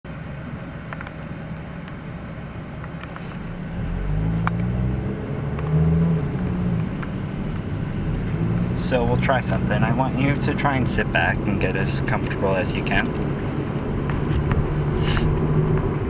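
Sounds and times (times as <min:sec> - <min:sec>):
car engine and road rumble: 0:00.1 - 0:16.0.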